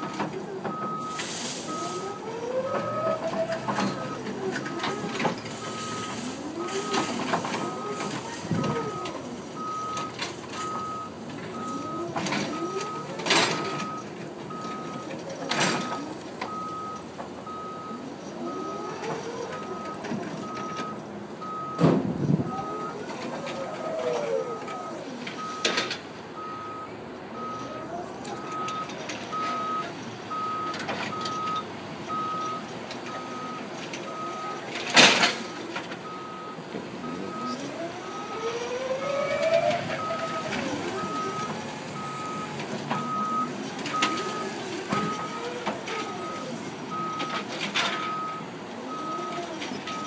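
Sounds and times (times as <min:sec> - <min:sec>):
forklift warning beeper: 0:00.0 - 0:50.0.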